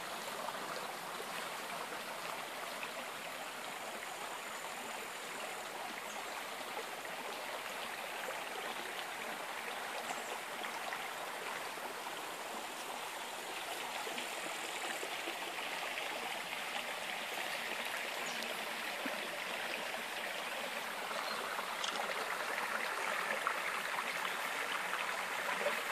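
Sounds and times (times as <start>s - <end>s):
stream rushing: 0.0s - 25.9s.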